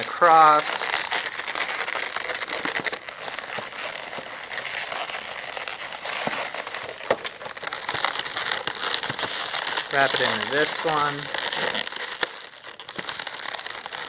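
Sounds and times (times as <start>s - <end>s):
balloons rubbing and crackling: 0.0s - 14.0s.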